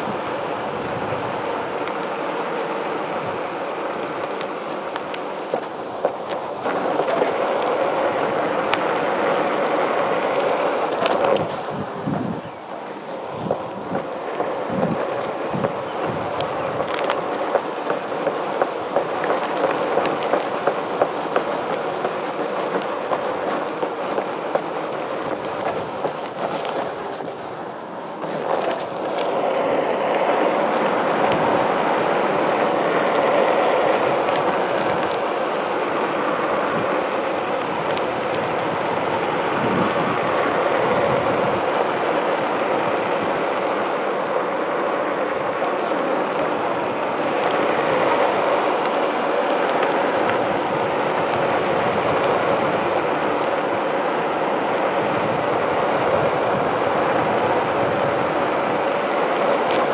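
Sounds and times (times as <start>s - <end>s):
tyre rolling over pavement: 4.2s - 54.0s.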